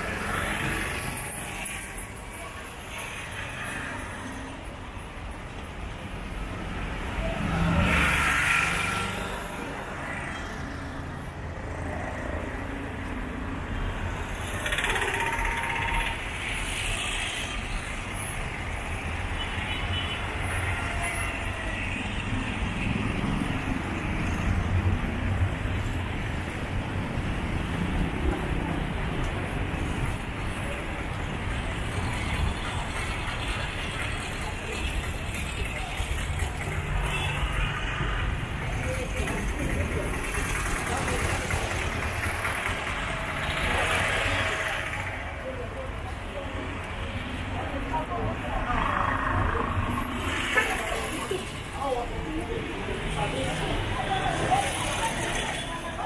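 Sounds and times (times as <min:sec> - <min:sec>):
auto-rickshaws and cars passing: 0:00.0 - 0:56.0
low traffic rumble: 0:04.0 - 0:56.0.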